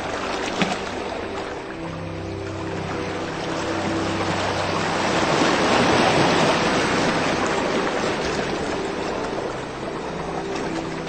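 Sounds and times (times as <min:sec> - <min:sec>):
ambient music drone: 0:00.0 - 0:11.0
rushing water: 0:00.0 - 0:11.0.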